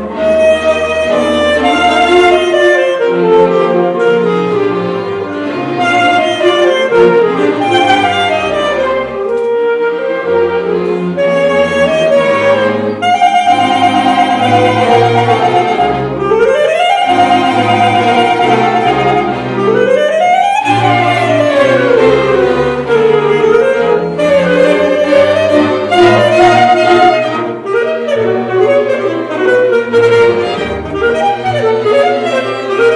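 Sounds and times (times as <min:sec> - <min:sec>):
symphony orchestra playing: 0:00.0 - 0:32.9.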